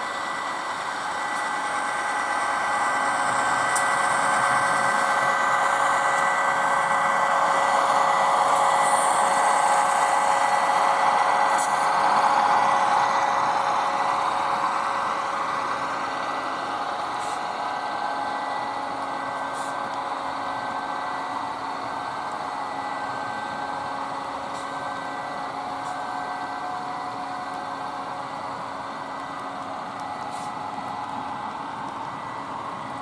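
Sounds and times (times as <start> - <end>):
model train whirring: 0.0 - 33.0.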